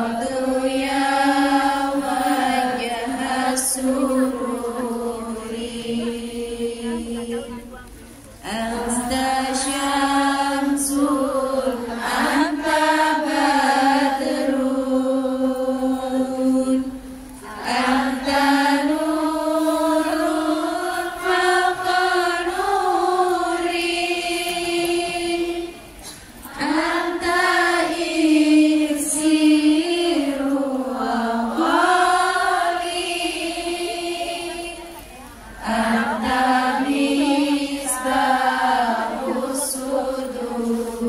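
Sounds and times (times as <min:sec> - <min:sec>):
group singing in unison: 0:00.0 - 0:07.6, 0:08.4 - 0:41.0.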